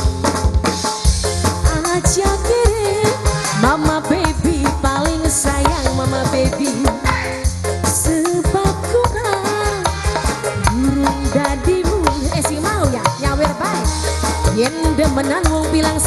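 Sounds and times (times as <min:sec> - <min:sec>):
low drum beat: 0:00.0 - 0:16.0.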